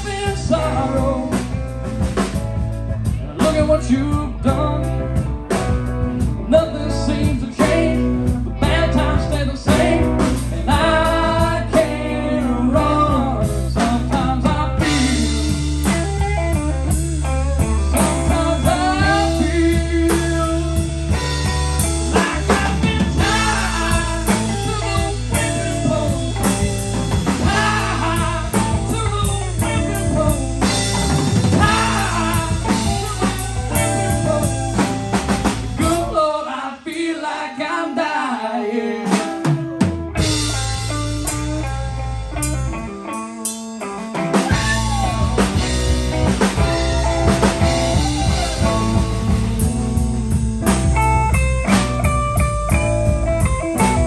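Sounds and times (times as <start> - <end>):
lead guitar line with bending notes: 0.0 - 36.1, 39.4 - 54.0
drum kit: 0.0 - 36.2, 39.0 - 54.0
bass: 0.0 - 37.2, 39.1 - 54.0.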